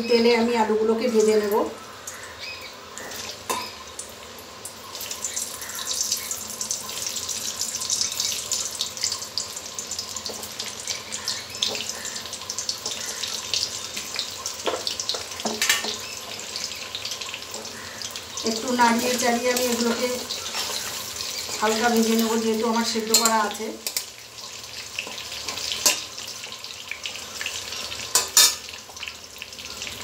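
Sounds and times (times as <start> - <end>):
hot oil sizzling: 0.0 - 30.0.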